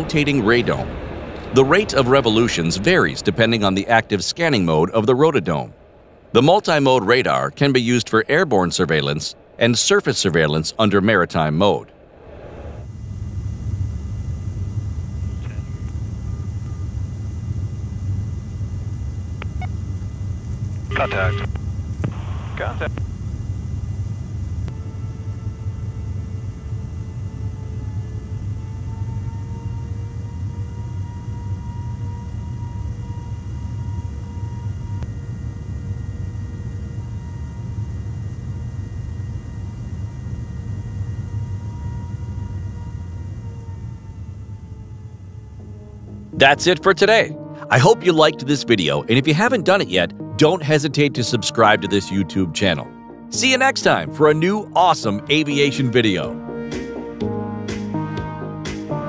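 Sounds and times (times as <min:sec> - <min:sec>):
aircraft cabin rumble: 0:00.0 - 0:52.2
steady whining tones: 0:00.0 - 0:59.0.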